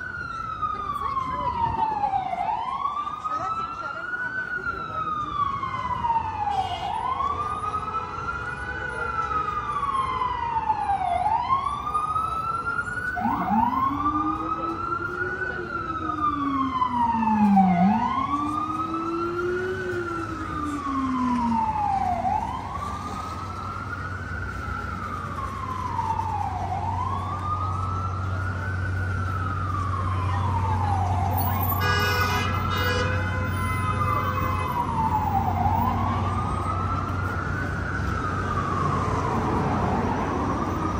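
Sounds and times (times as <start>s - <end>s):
emergency siren wailing: 0.0s - 40.9s.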